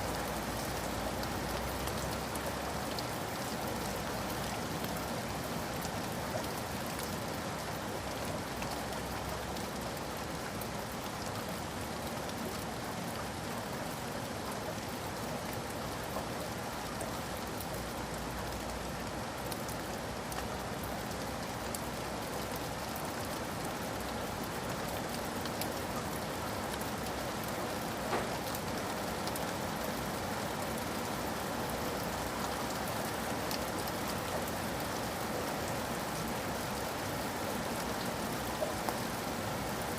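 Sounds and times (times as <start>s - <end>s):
raindrops ticking on a surface: 0.0s - 39.9s
steady rain hiss: 0.0s - 39.9s.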